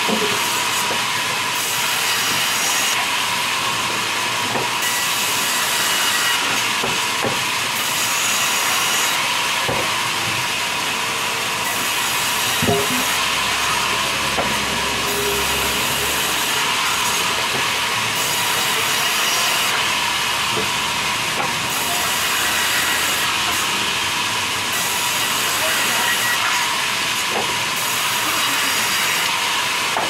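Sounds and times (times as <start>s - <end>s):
band saw cutting wood: 0.0s - 30.0s.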